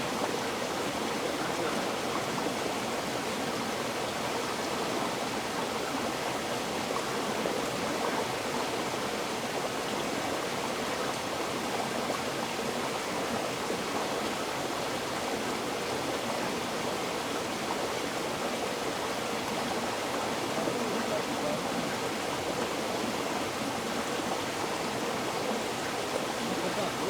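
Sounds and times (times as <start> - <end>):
river water flowing over rocks: 0.0 - 27.0.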